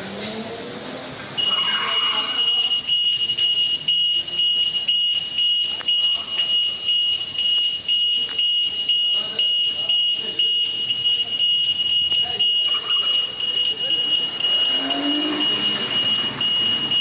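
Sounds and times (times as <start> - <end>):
pulsing electronic alarm tone: 1.4 - 17.0.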